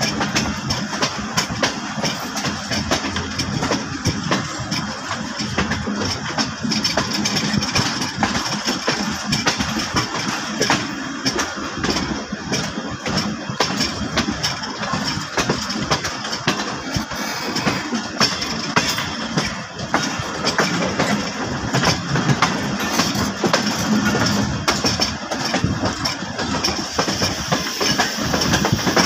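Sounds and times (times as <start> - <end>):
train rumble and air rush: 0.0 - 29.0
wheels clacking over rail joints: 0.0 - 29.0.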